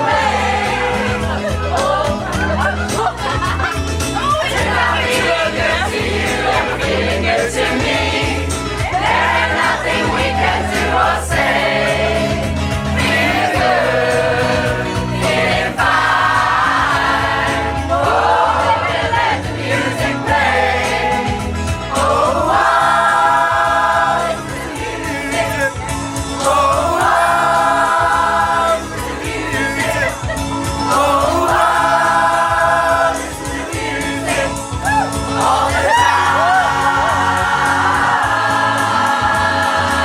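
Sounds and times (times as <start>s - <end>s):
choir singing a pop song: 0.0s - 40.0s
instrumental accompaniment with bass: 0.0s - 40.0s.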